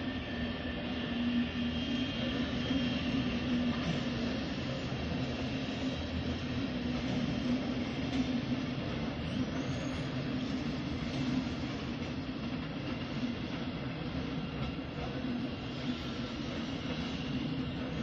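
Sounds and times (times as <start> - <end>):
train passing with rolling rumble: 0.0 - 18.0.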